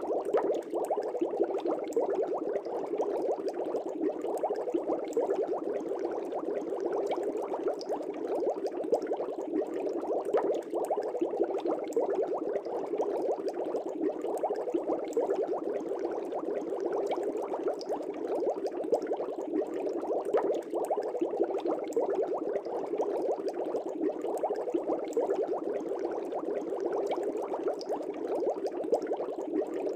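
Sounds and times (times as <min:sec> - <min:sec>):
aquarium air bubbling: 0:00.0 - 0:29.9.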